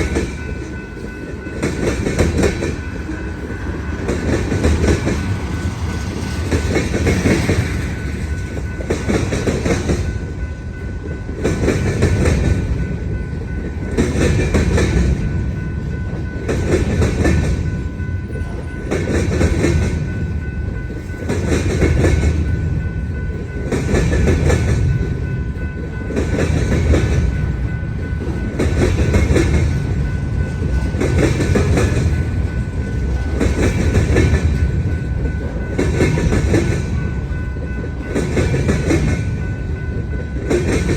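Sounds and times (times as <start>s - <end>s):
train rolling rumble: 0.0s - 40.9s
train wheels clattering over crossing: 0.0s - 40.9s.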